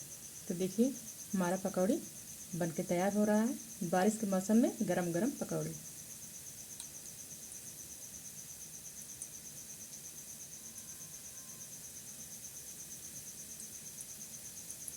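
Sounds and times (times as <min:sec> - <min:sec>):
cricket chirping: 0:00.0 - 0:14.9
faint steady hiss: 0:00.0 - 0:14.9.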